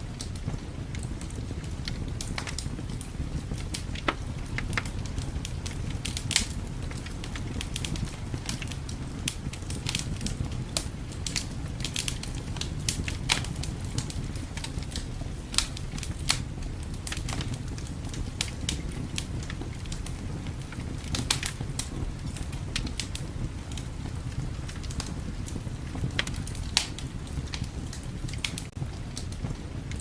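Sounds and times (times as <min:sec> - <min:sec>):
fire pops and snaps: 0:00.0 - 0:30.0
low rumble of wind: 0:00.0 - 0:30.0
wood fire crackling: 0:00.0 - 0:30.0.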